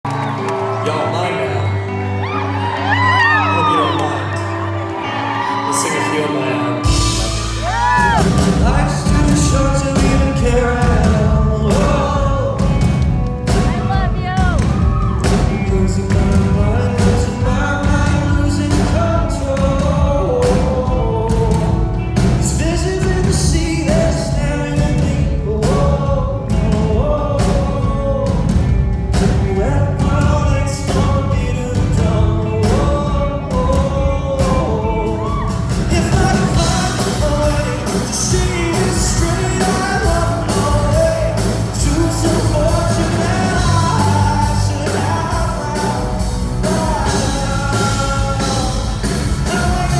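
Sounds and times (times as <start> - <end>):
live pop-rock band: 0.1 - 49.9
man singing: 2.8 - 49.9.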